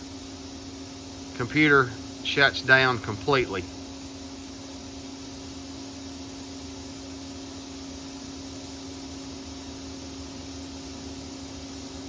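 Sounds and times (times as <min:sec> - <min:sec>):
electrical hum: 0:00.0 - 0:12.0
fan hiss: 0:00.0 - 0:12.0.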